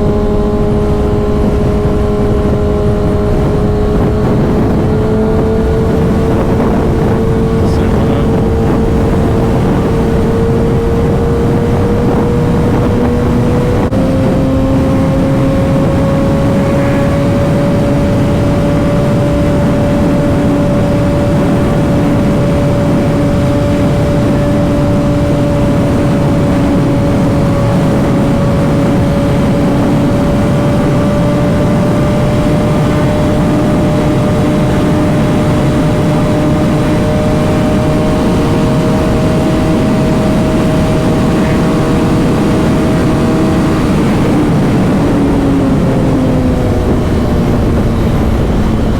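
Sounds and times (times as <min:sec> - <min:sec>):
motorcycle engine cruising: 0:00.0 - 0:48.9
wind and road noise: 0:00.0 - 0:48.9.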